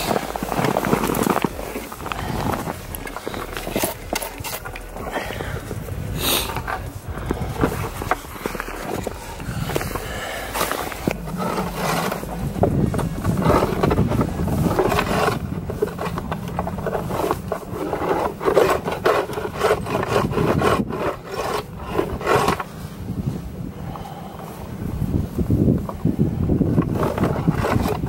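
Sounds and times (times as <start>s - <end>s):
brush scraping snow: 0.0s - 28.0s.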